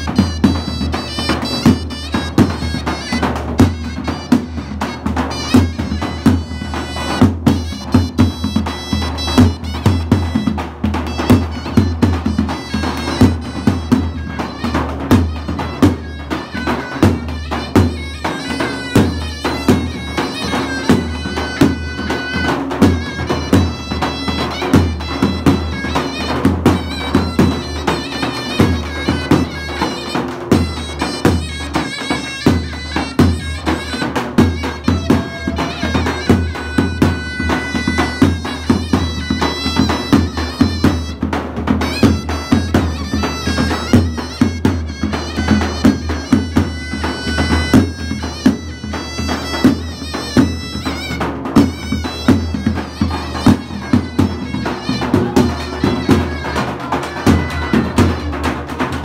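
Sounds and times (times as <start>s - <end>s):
reedy shawm melody: 0.0s - 59.0s.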